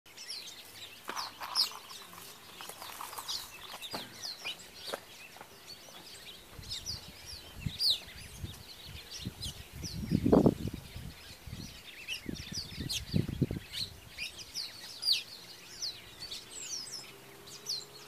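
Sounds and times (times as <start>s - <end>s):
birds chirping and whistling: 0.1s - 18.0s
low bird calls: 0.2s - 18.0s.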